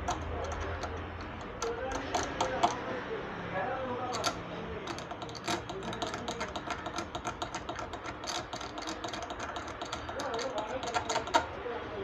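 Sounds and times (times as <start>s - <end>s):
small hand tools clicking: 0.0s - 2.9s, 4.1s - 11.6s.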